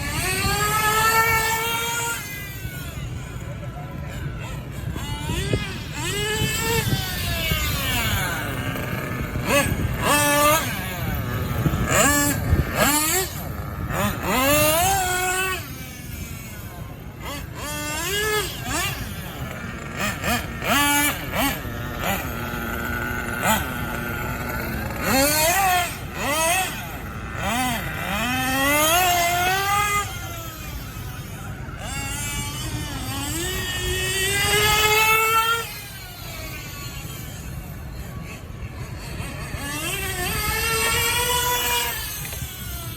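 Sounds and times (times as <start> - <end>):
nitro engine revving: 0.0 - 42.9.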